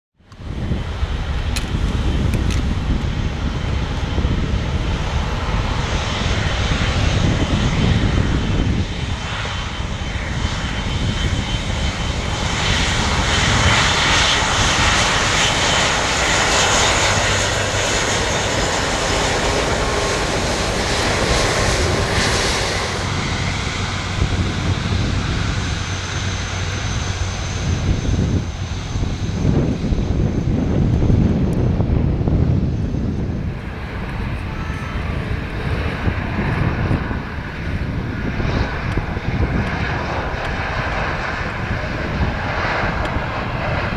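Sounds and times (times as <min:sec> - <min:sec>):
high jet whine: 0:00.2 - 0:43.9
jet engine roar: 0:00.2 - 0:43.9.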